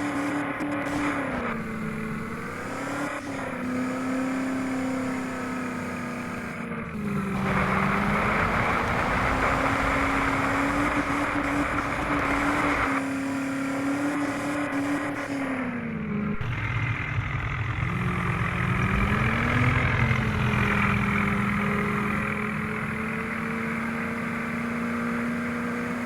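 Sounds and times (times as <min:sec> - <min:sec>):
engine running hard under load: 0:01.2 - 0:13.1, 0:15.7 - 0:25.9.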